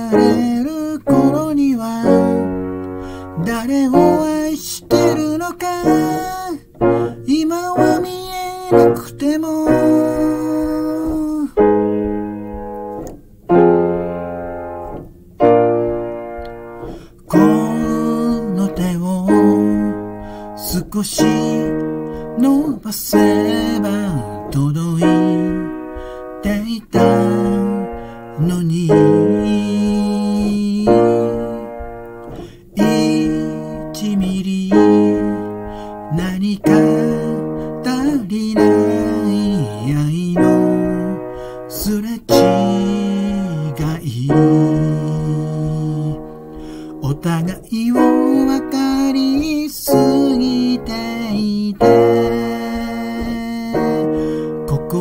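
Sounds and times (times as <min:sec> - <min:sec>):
digital piano chords: 0:00.0 - 0:55.0.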